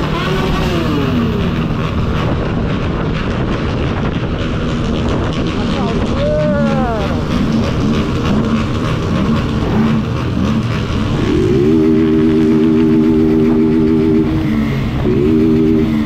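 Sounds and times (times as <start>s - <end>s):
motorcycle engine revving: 0.0s - 16.0s
motorcycle throttle blips: 0.0s - 16.0s.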